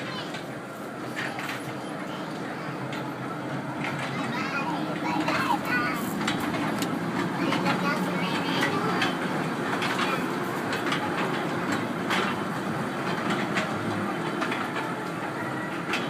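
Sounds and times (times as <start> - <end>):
ride-on train rumbling: 0.0 - 16.0
wheels clicking on rails: 0.0 - 16.0.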